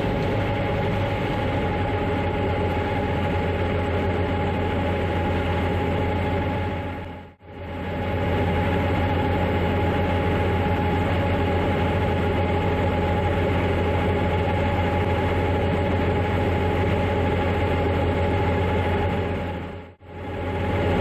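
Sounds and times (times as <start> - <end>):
deep engine drone: 0.0 - 21.0
steady high whine: 0.0 - 21.0.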